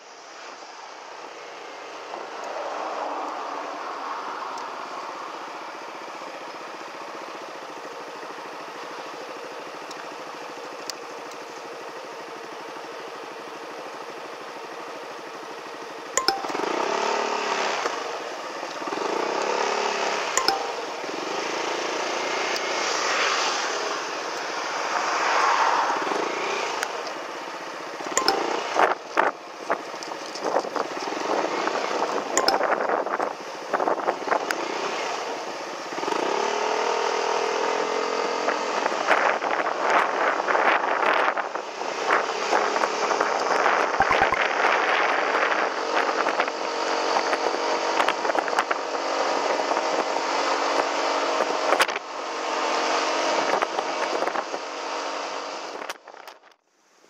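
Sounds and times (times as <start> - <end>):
motor scooter engine: 1.1 - 55.8.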